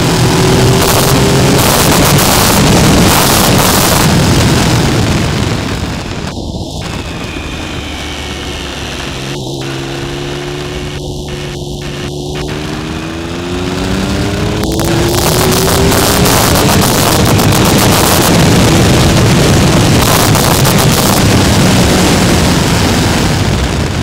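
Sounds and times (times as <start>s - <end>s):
motorcycle engine accelerating: 0.0s - 24.0s
wind rushing over microphone: 0.0s - 24.0s.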